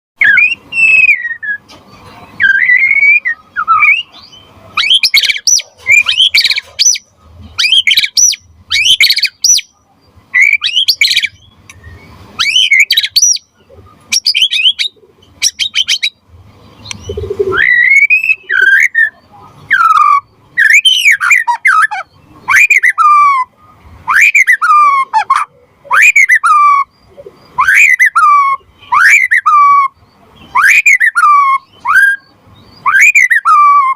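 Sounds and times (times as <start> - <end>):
bird singing whistled phrases: 0.2 - 1.7, 2.4 - 16.2, 16.8 - 23.5, 24.1 - 25.2, 25.9 - 33.9.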